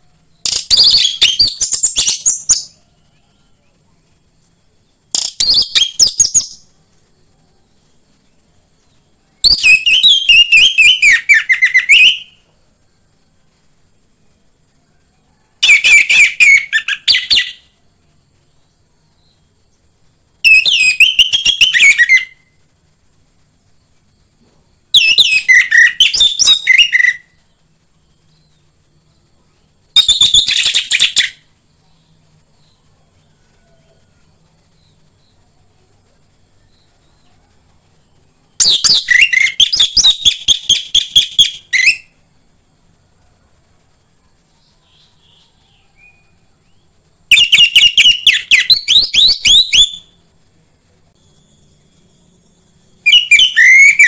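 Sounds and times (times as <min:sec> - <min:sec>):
faint high hiss: 0:00.0 - 0:54.0.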